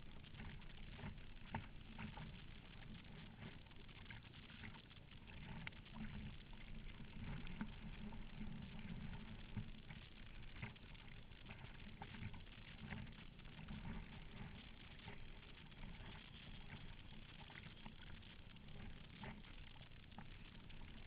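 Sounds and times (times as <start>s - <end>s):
water splashing against kayak: 0.0s - 21.0s.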